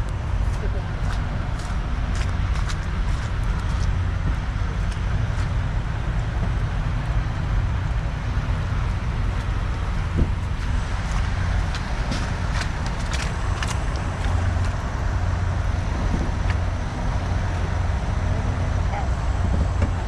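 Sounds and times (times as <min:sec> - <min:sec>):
road vehicles rumbling: 0:00.0 - 0:20.0.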